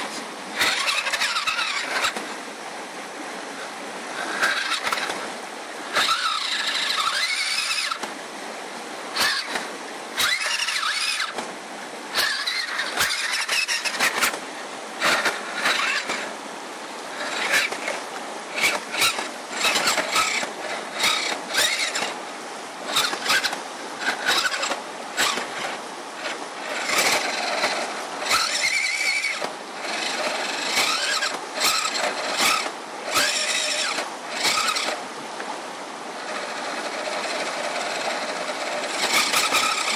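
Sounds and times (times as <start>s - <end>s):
electric motor and gears whining: 0.0s - 2.3s, 4.2s - 5.3s, 5.9s - 8.2s, 9.1s - 11.5s, 12.1s - 14.4s, 15.0s - 16.4s, 17.0s - 39.9s
stream water rushing: 0.0s - 39.9s.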